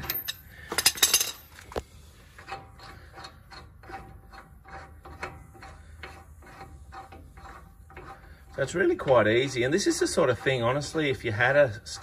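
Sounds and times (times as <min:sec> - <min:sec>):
wheel nut threads rasping: 0:00.0 - 0:12.0.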